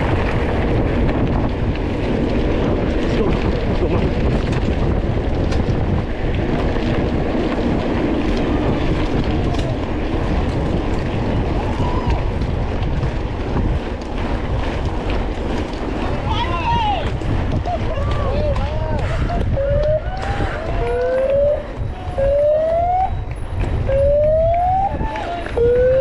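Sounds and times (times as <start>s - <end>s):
bike rattling and clicking: 0.0s - 26.0s
wind buffeting microphone: 0.0s - 26.0s.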